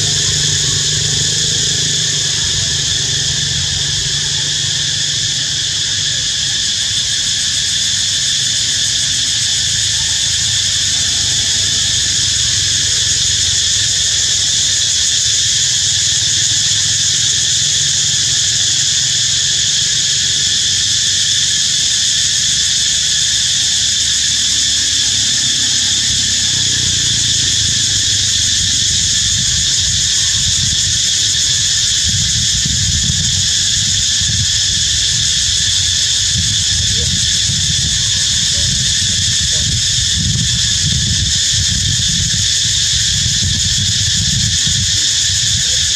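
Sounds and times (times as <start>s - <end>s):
insect chorus droning: 0.0s - 45.9s.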